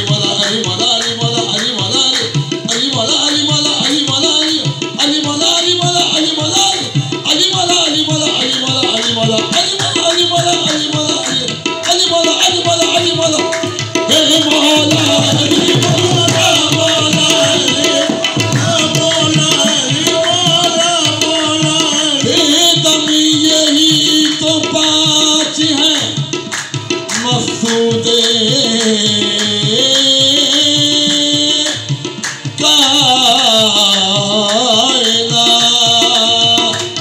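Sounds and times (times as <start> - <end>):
tabla drumming: 0.0 - 37.0.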